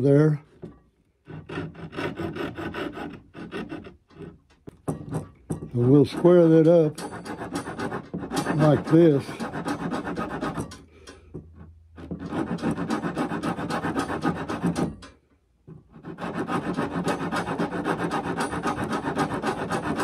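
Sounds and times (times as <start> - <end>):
wood rasp filing wood: 1.2 - 4.4, 5.1 - 15.1, 15.8 - 20.0.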